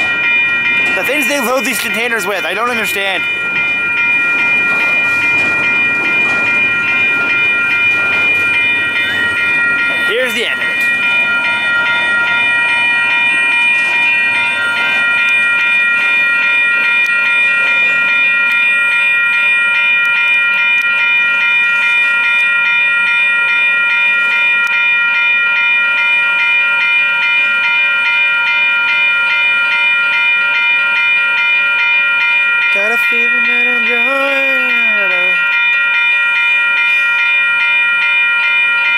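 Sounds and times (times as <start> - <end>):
freight train rumble: 0.0 - 31.0, 32.5 - 37.3
crossing bell ringing: 0.0 - 38.9.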